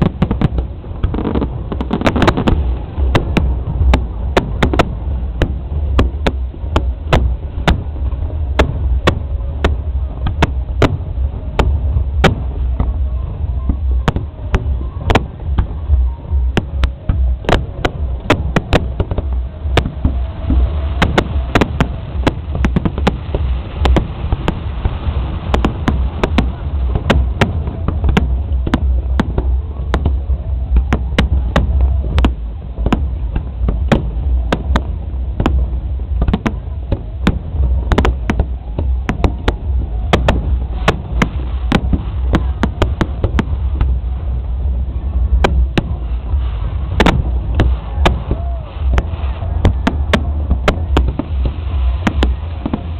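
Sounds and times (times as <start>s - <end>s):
crowd voices: 0.0s - 52.9s
fireworks bangs: 0.0s - 52.9s
low rumble: 0.0s - 52.9s.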